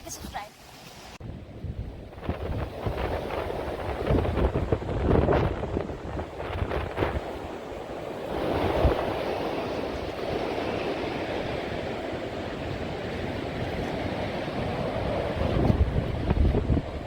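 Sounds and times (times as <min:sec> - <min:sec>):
sea surf: 0:00.0 - 0:17.0
storm wind: 0:00.0 - 0:17.0.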